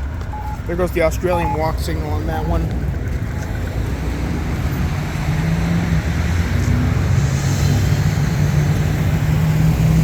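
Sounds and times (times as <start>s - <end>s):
road traffic passing: 0.0s - 10.0s.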